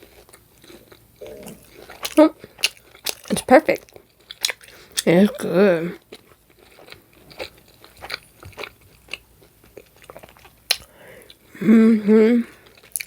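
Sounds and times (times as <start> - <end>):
person chewing: 0.0 - 11.8, 12.5 - 13.0.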